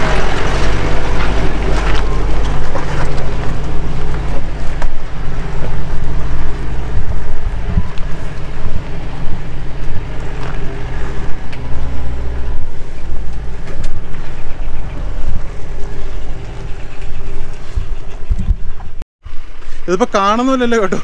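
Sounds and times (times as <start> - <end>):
pickup diesel engine under load: 0.0 - 19.0.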